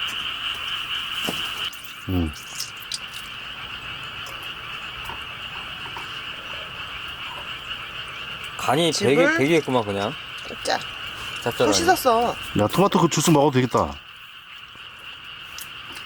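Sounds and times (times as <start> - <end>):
chorus of frogs calling: 0.0 - 16.0.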